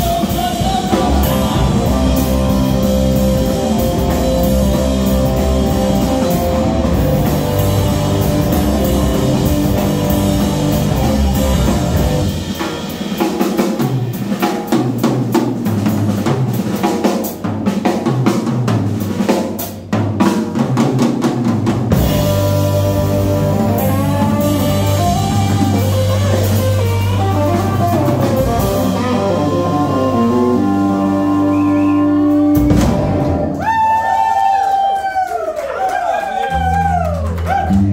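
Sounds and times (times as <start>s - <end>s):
blues-rock band playing: 0.0s - 34.2s.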